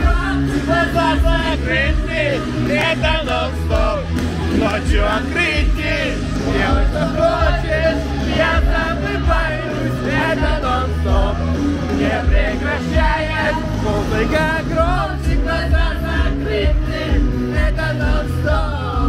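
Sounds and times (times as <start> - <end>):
backing track with bass line: 0.0 - 19.0
man singing: 0.0 - 19.0.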